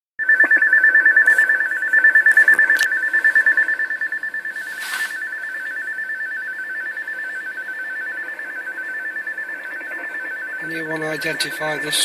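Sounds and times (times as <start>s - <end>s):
electronic two-tone warbling: 0.2s - 12.0s.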